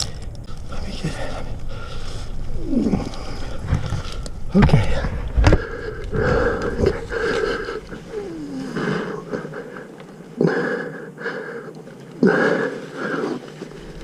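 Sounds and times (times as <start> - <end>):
person breathing hard and wheezing: 0.5 - 14.0.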